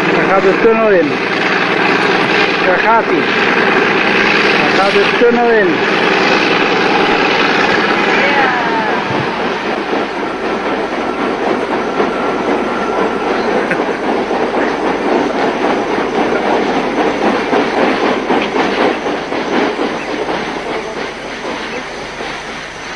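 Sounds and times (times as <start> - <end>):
train wheels clattering: 0.0 - 22.9.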